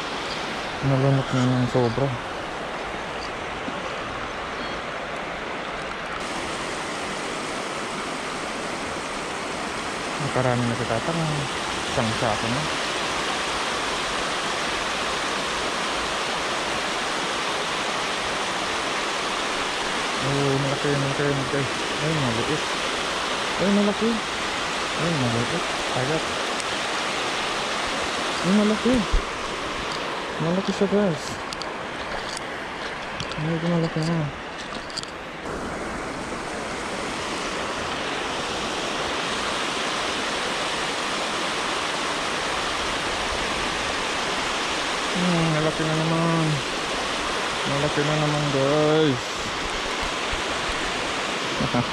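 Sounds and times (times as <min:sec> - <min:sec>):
river water rushing over weir: 0:00.0 - 0:51.9.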